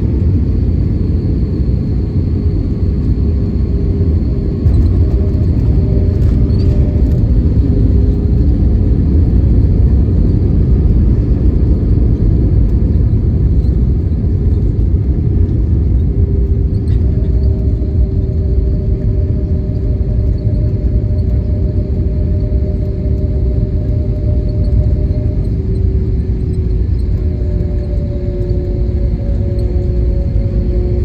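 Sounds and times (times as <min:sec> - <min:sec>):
aircraft cabin low rumble: 0:00.0 - 0:31.0
faint engine tone: 0:00.0 - 0:31.0.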